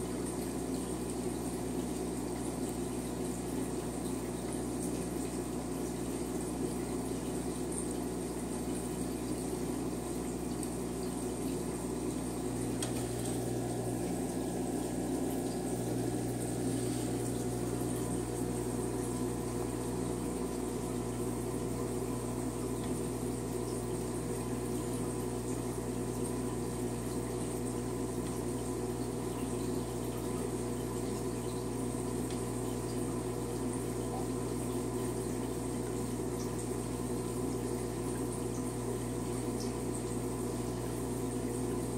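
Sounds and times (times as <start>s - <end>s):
sponge filter bubbling: 0.0s - 41.9s
water trickling and splashing: 0.0s - 41.9s.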